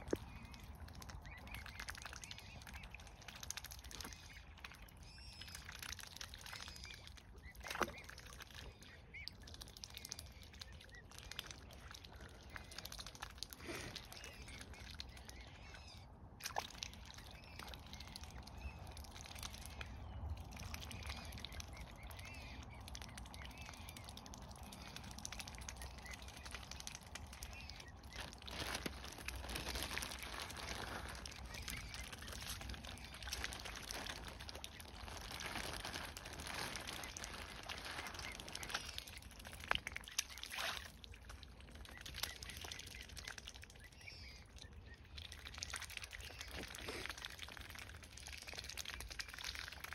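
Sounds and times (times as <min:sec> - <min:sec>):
swans splashing in water: 0:00.0 - 0:49.9.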